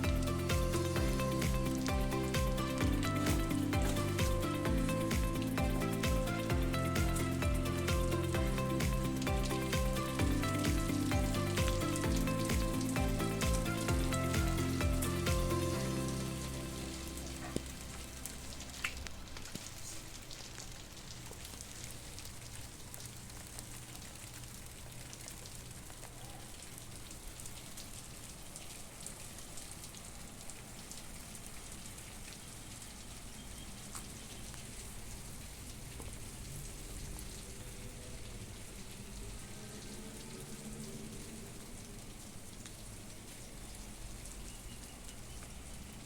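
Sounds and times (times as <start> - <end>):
steady rain patter: 0.0 - 46.0.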